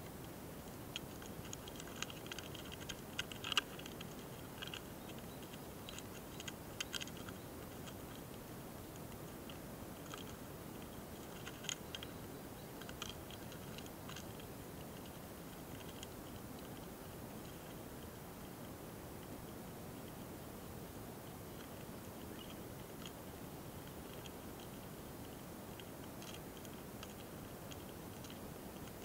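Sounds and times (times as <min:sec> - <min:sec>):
beetles clicking and scratching: 0:00.0 - 0:29.0
soft steady hiss: 0:00.0 - 0:29.0.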